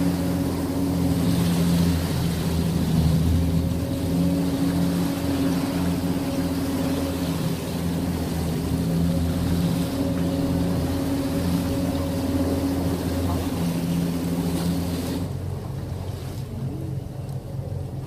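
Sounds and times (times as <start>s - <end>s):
boat engine droning: 0.0s - 18.0s
hiss of wind and water: 0.0s - 18.0s.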